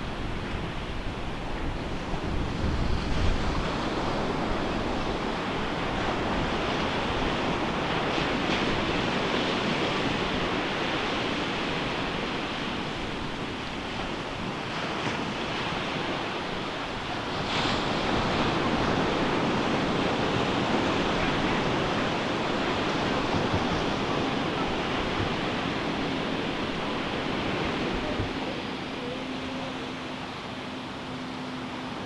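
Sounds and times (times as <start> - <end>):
ocean surf breaking: 1.5 - 32.0.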